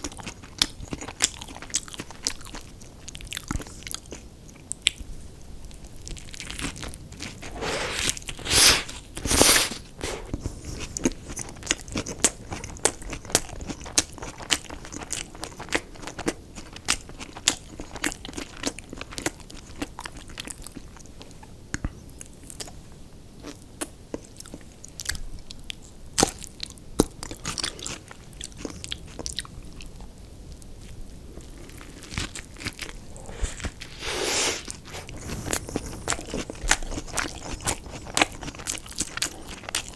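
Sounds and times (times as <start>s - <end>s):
chewing with crisp crackles: 0.0s - 39.9s.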